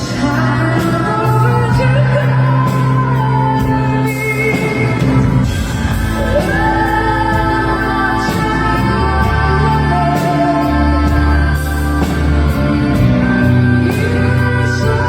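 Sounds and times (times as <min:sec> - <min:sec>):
band accompaniment: 0:00.0 - 0:15.0
woman singing a ballad: 0:00.0 - 0:15.0.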